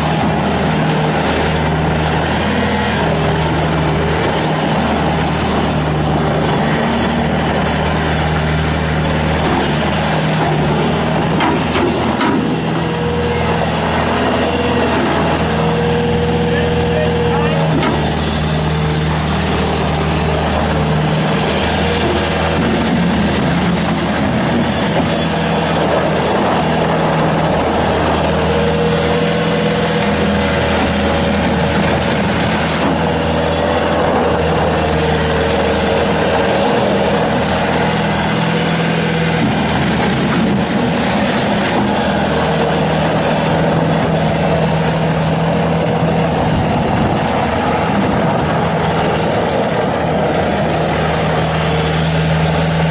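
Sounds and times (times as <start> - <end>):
diesel engine running loudly: 0.0 - 52.9.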